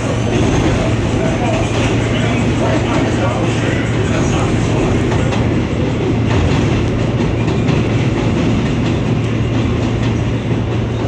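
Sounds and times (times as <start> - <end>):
subway car rolling rumble: 0.0 - 11.0.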